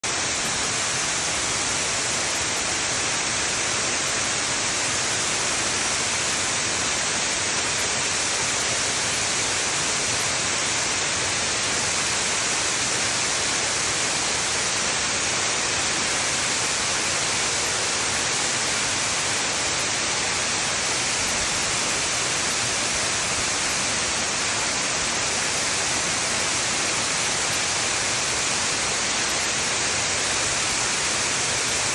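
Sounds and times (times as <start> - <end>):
waterfall rushing over rocks: 0.0 - 31.9.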